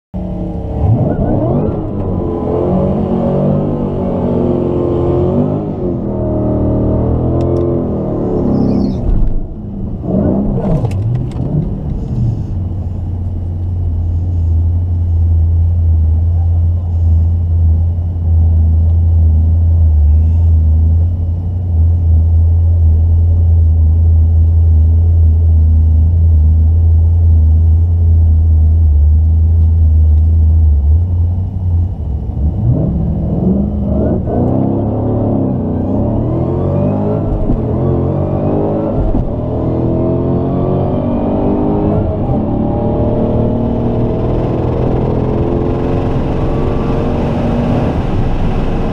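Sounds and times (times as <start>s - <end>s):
drag car engine idling and revving: 0.2s - 48.9s.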